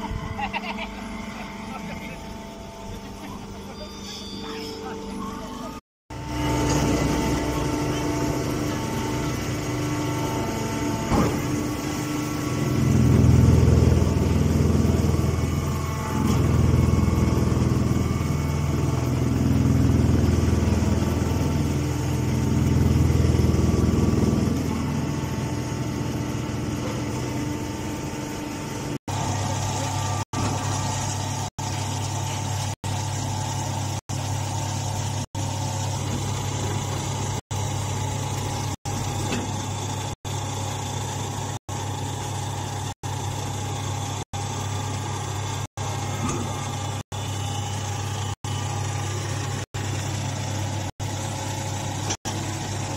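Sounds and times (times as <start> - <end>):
baler machinery humming: 0.0 - 52.9.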